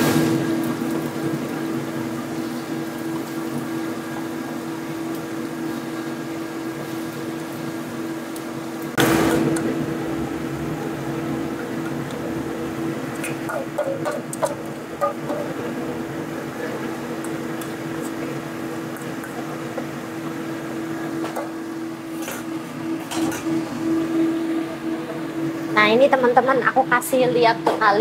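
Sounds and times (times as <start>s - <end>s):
batter frying in oil: 0.0s - 27.3s
range hood fan humming: 0.0s - 28.0s.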